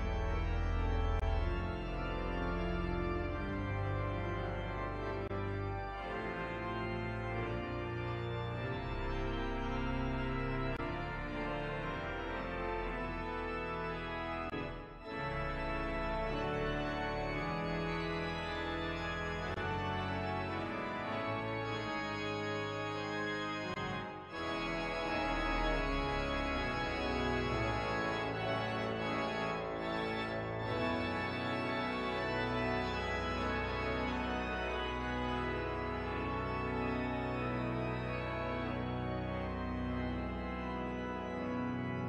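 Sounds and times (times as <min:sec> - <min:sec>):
organ music: 0:00.0 - 0:42.0.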